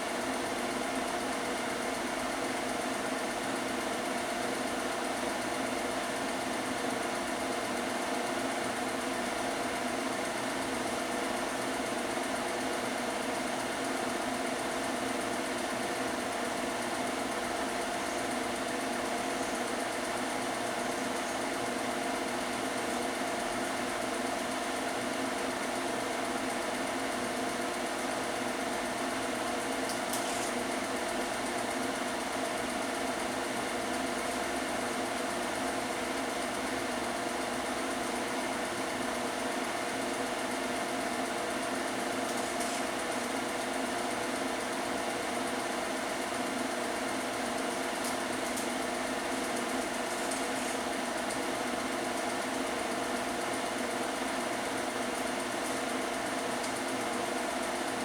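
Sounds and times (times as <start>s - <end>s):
film projector running: 0.0s - 58.0s.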